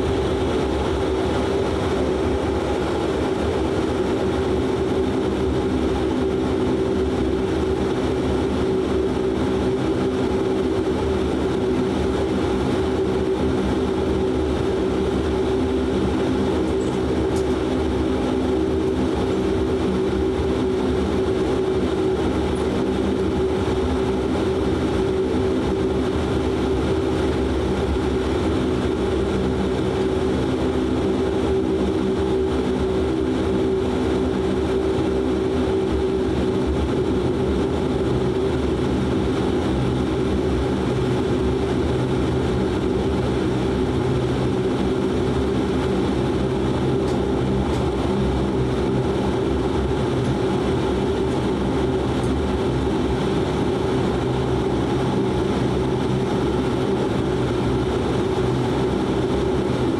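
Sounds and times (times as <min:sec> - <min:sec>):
constant rush: 0:00.0 - 0:59.9
propeller drone in cabin: 0:00.0 - 0:59.9.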